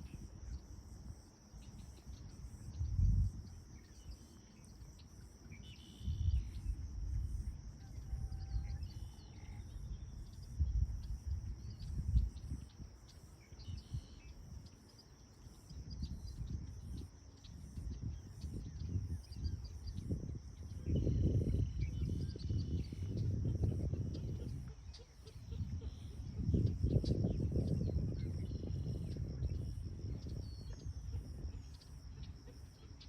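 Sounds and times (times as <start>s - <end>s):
fine insect chirping: 0.0s - 33.0s
high insect drone: 0.0s - 33.0s.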